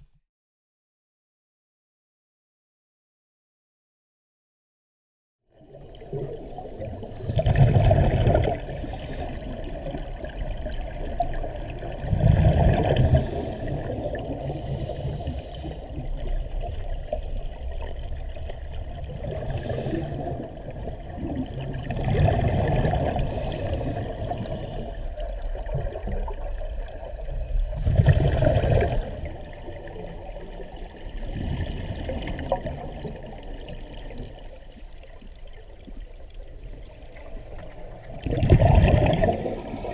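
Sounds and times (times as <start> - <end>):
underwater exhaled bubbles: 5.6 - 39.9
steady underwater hiss: 5.8 - 39.9.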